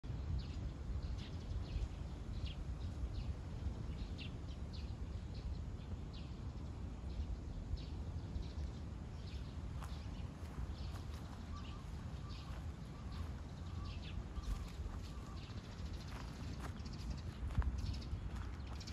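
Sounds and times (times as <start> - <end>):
steady low rumble: 0.0 - 18.9
small birds chirping: 0.2 - 18.9.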